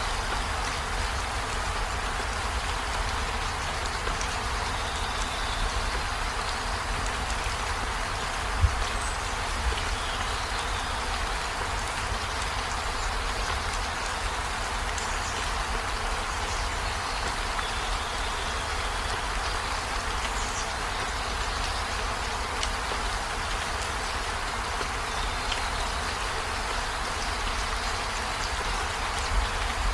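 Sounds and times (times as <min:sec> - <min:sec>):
steady rain hiss: 0:00.0 - 0:29.9.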